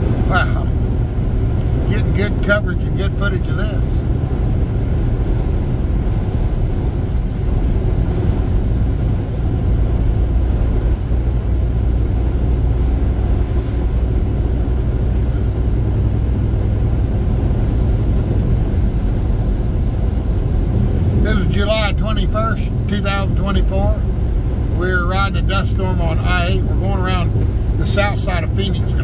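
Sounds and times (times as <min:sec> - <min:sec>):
road and wind noise in vehicle: 0:00.0 - 0:29.0.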